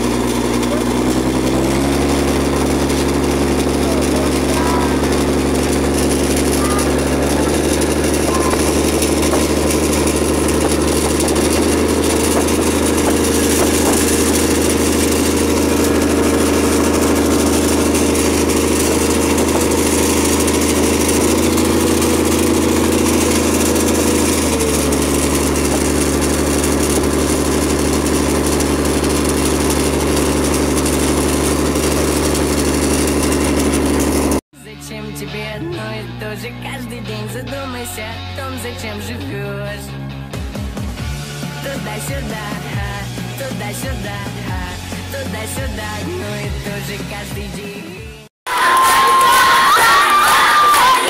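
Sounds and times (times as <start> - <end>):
vehicle engine running: 0.0 - 34.4, 38.6 - 48.3.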